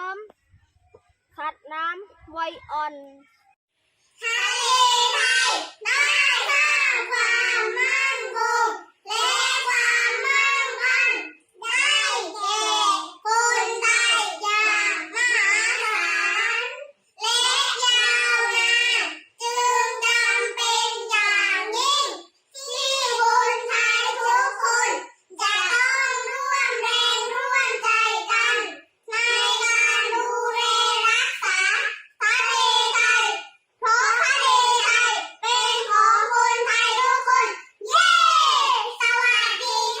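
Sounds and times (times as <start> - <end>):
children singing: 4.2 - 40.0.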